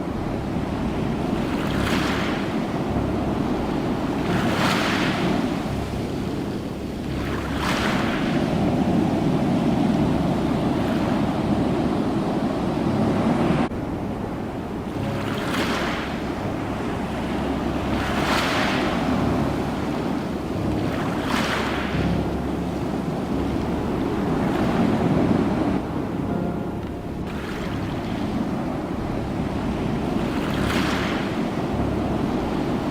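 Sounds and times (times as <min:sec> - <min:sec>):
ocean waves rumbling: 0:00.0 - 0:32.9
waves breaking and hissing: 0:00.0 - 0:32.9.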